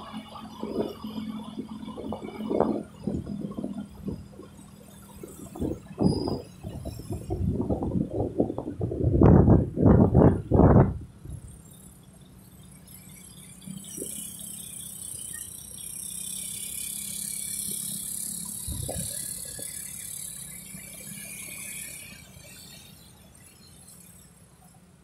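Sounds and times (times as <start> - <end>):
motorcycle engine hum: 0.0 - 25.0.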